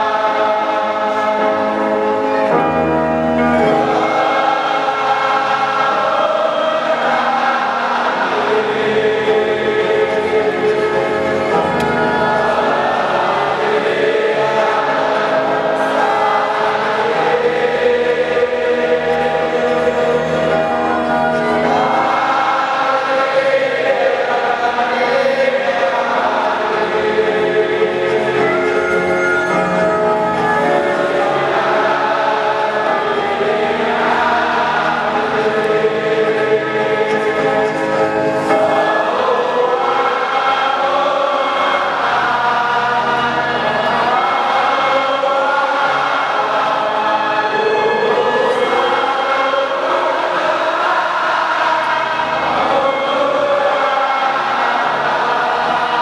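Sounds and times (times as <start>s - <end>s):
stadium crowd singing: 0.0s - 56.0s.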